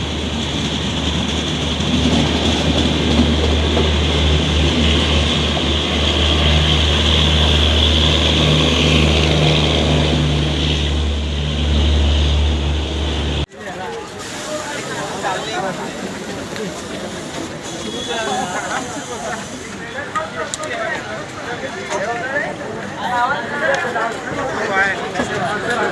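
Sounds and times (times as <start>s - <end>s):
electric train rumbling: 0.0s - 21.4s.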